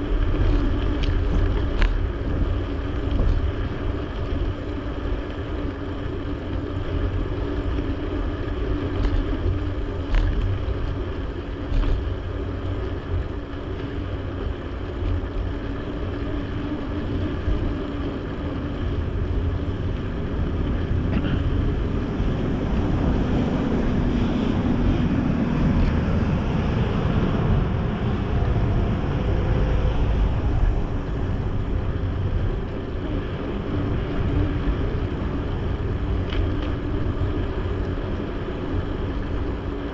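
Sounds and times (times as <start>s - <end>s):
road traffic: 0.0s - 39.9s
wind rumble on microphone: 0.0s - 39.9s.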